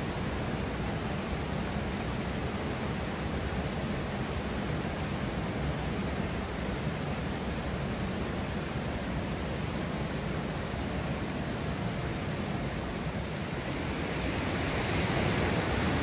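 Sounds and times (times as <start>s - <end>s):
water dripping and trickling: 0.0s - 16.0s.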